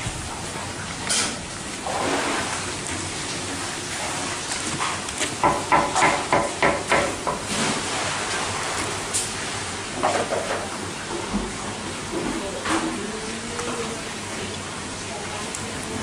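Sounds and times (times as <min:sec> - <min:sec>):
steady noisy background: 0:00.0 - 0:16.0.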